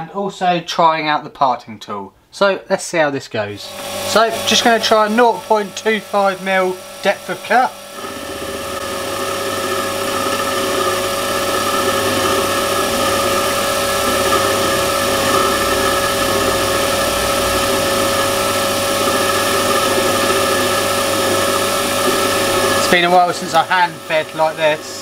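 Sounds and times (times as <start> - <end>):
lathe motor and gear whine: 3.6 - 25.0
turning tool cutting metal: 3.6 - 25.0.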